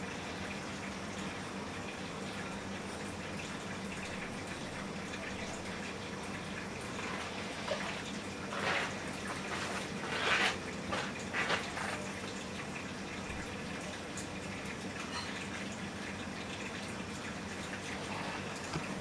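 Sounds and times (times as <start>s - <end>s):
aquarium water bubbling: 0.0s - 19.0s.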